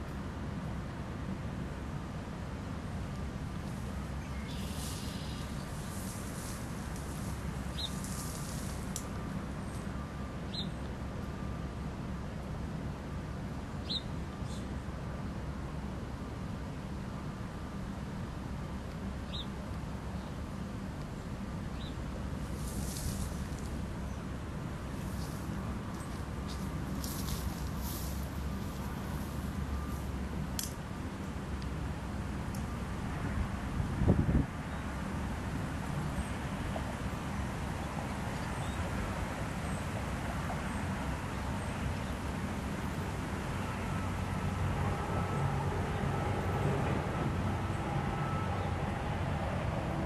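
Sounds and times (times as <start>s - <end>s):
low rumble and hiss: 0.0s - 50.0s.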